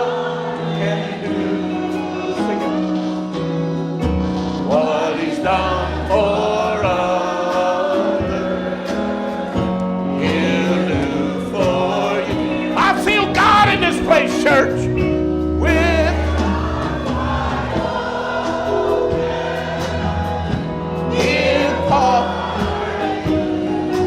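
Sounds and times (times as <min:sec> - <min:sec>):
keyboard chords: 0:00.0 - 0:24.0
voices singing: 0:00.0 - 0:24.0
bass line: 0:02.0 - 0:24.0.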